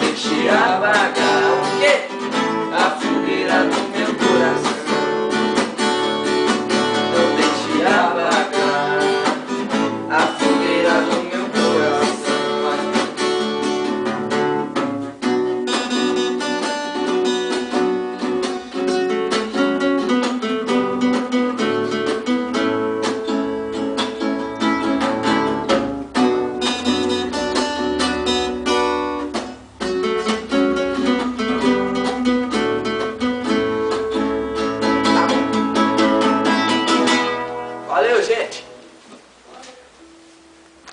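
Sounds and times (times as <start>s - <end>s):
acoustic guitar solo: 0.0s - 40.9s.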